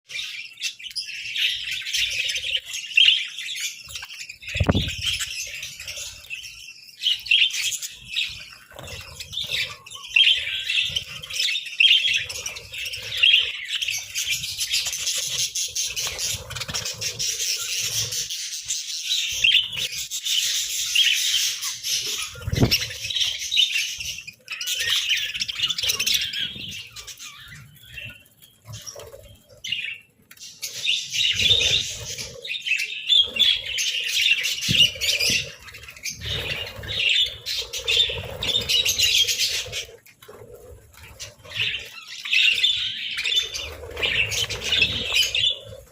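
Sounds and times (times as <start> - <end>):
budgerigars chirping and chattering: 0.1 - 45.9.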